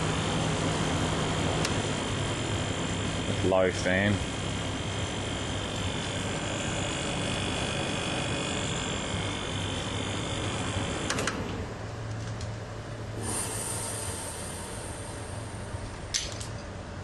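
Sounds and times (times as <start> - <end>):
air conditioner running with whine: 0.0 - 17.0.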